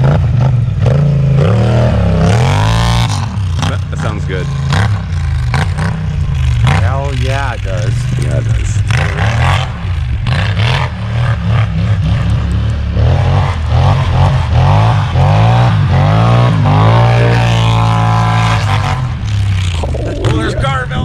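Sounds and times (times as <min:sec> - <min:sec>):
atv engine revving: 0:00.0 - 0:21.0
constant low drone: 0:00.0 - 0:21.0.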